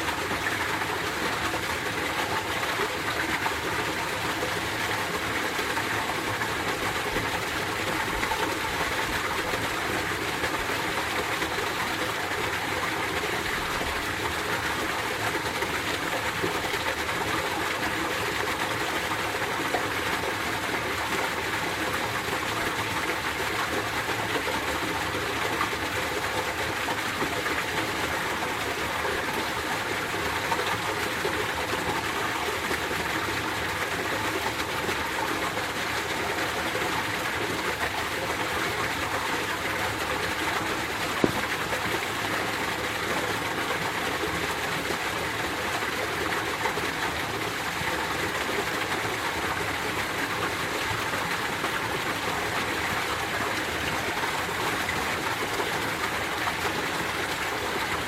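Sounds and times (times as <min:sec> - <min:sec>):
stream water splashing over rocks: 0:00.0 - 0:58.0.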